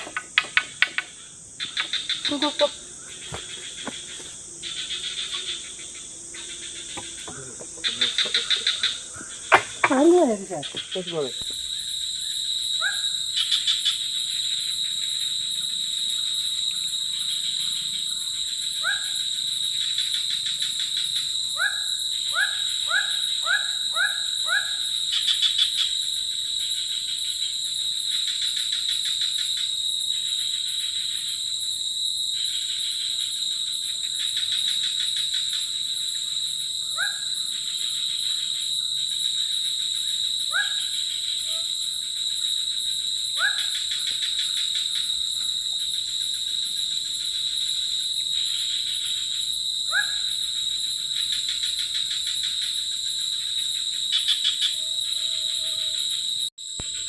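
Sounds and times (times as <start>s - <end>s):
insect chorus ringing: 0.0s - 57.0s.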